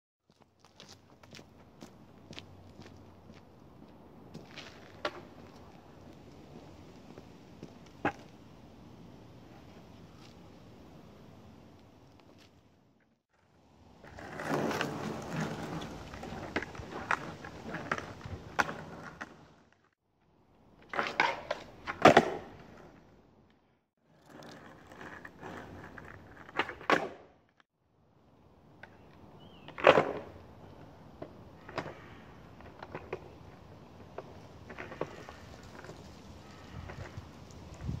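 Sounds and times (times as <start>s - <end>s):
skateboard wheels rolling on asphalt: 0.2s - 38.0s.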